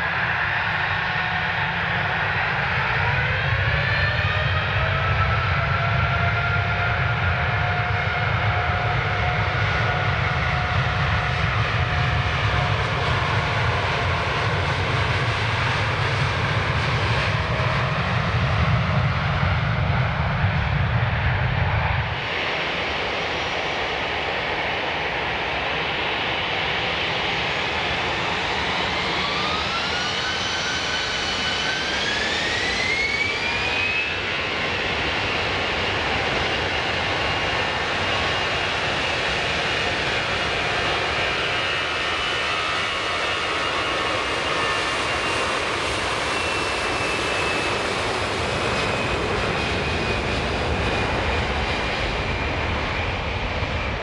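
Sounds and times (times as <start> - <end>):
jet engines rumbling and whining: 0.0 - 54.0
jet engines spooling up: 0.0 - 54.0.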